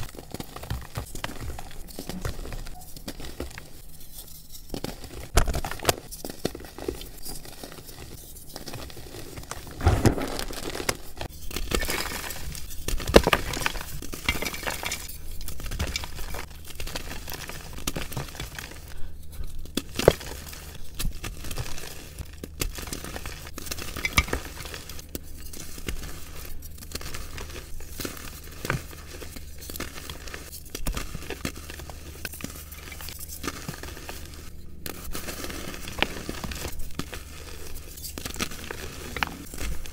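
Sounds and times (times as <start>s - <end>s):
chalk crunching and crumbling: 0.0s - 39.9s.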